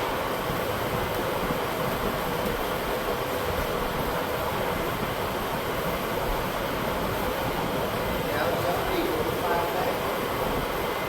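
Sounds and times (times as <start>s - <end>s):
fan blowing steadily: 0.0s - 11.0s.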